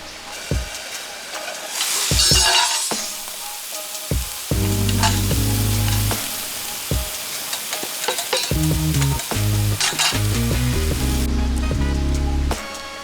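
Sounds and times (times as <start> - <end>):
food sizzling over wood fire: 0.0 - 11.6
background music low notes: 0.0 - 13.0
fire crackles: 0.0 - 13.0.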